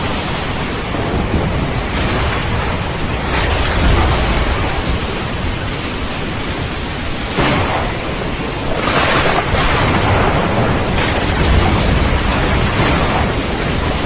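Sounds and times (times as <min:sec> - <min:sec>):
heavy rain hiss: 0:00.0 - 0:14.0
low thunder rumbling: 0:00.0 - 0:14.0.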